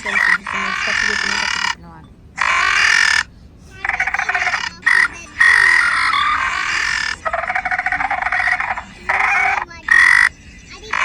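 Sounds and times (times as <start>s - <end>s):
harsh pulsing dinosaur calls: 0.0s - 11.0s.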